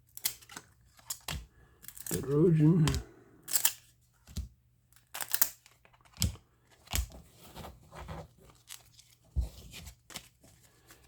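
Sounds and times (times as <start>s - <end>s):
cards and wrappers rustling: 0.0s - 11.0s.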